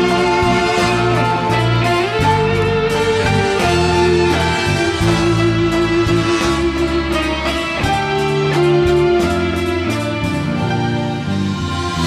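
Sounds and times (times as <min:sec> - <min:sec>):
held melody notes: 0:00.0 - 0:12.0
sustained bass notes: 0:00.0 - 0:12.0.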